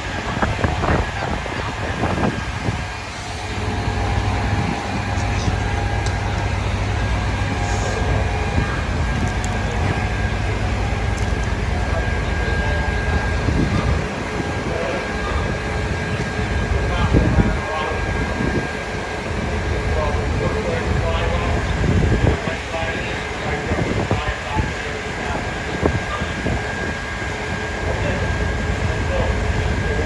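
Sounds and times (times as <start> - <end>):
city street noise: 0.0 - 30.0
vehicle engine idling: 0.0 - 30.0.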